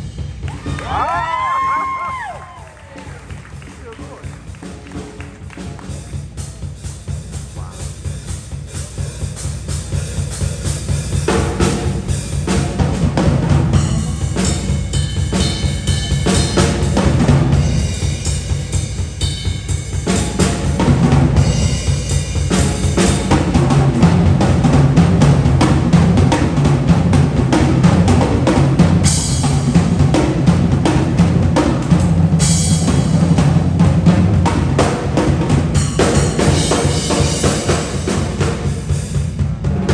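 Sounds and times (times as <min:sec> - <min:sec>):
band playing: 0:00.0 - 0:39.9
drums and drum rolls: 0:00.0 - 0:39.9.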